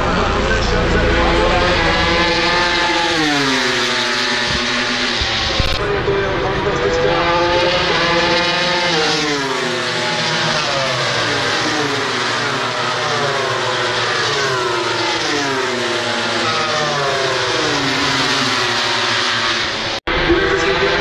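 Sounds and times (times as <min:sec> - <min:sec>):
racing motorcycles passing: 0:00.0 - 0:21.0.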